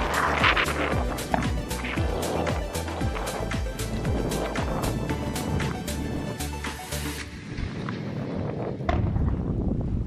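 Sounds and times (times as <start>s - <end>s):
fireworks low rumble: 0.0s - 10.0s.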